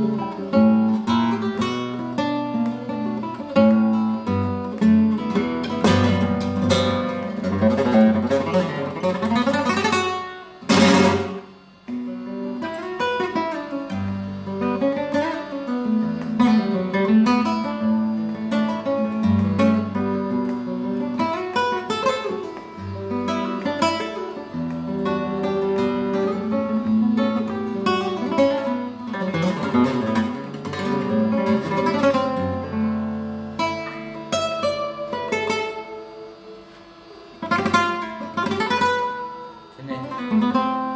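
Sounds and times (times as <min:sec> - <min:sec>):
flamenco guitar playing: 0:00.0 - 0:40.9.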